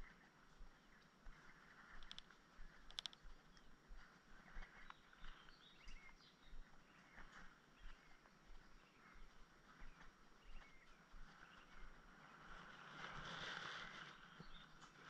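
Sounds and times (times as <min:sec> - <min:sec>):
distant bird chirps: 0:00.0 - 0:13.2, 0:13.8 - 0:15.0.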